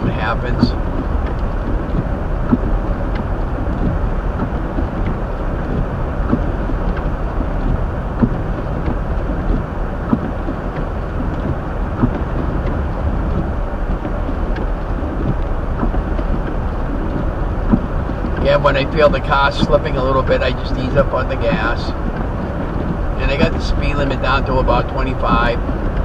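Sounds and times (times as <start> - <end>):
car engine rumble: 0.0 - 26.0
tyre and road noise: 0.0 - 26.0.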